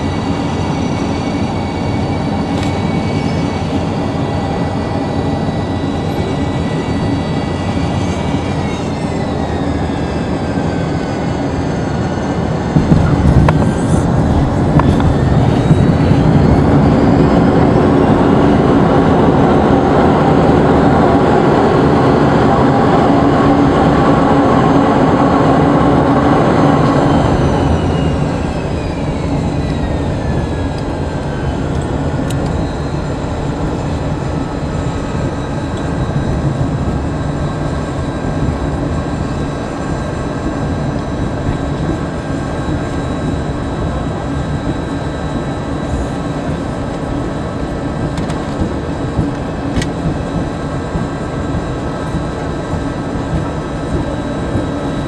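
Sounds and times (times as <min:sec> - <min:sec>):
aircraft rolling rumble: 0:00.0 - 0:55.0
jet engine whine: 0:00.0 - 0:55.0.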